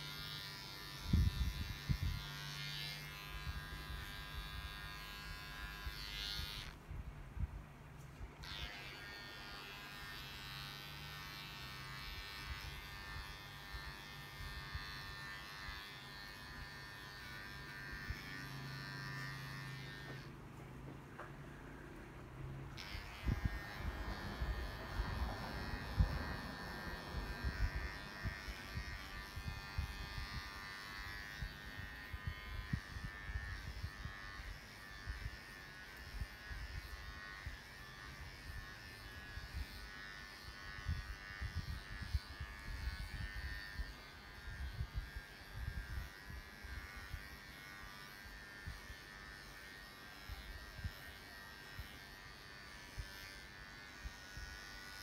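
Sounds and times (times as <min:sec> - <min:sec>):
electric hair clippers buzzing: 0:00.0 - 0:06.8, 0:08.4 - 0:20.4, 0:22.7 - 0:55.0.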